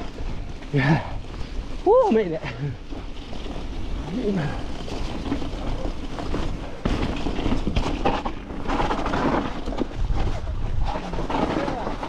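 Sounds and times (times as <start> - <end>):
bike clattering: 0.0 - 12.0
bike tyres on rough ground: 0.0 - 12.0.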